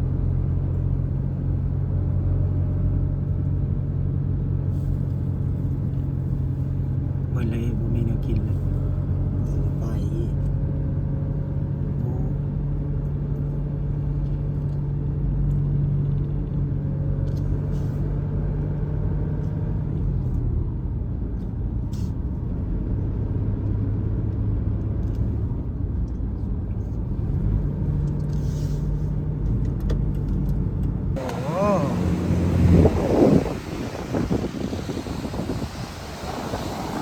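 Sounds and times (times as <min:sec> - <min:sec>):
road noise: 0:00.0 - 0:37.0
vehicle engine hum: 0:00.0 - 0:37.0.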